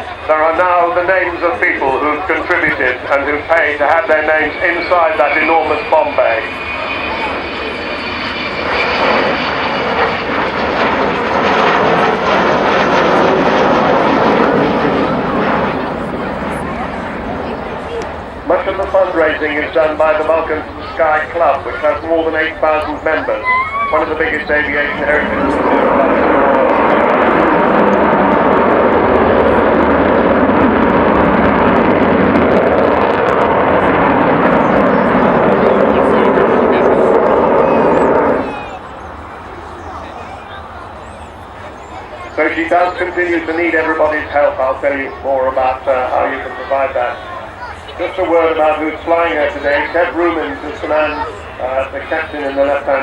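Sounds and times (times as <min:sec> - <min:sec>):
loud jet engine noise: 0:00.0 - 0:53.0.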